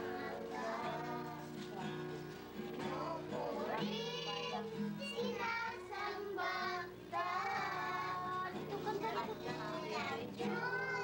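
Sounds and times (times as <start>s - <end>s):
children's choir singing: 0.0s - 1.8s, 2.8s - 11.0s.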